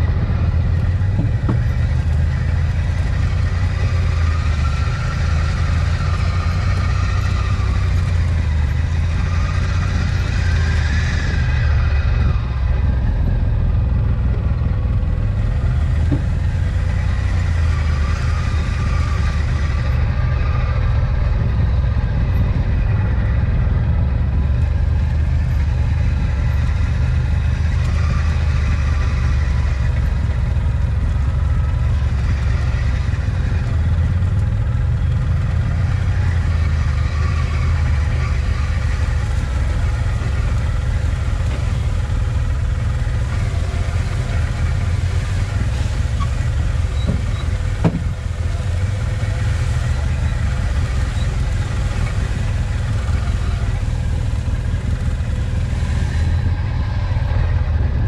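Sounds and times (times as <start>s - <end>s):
engine rumbling at low speed: 0.0s - 58.0s.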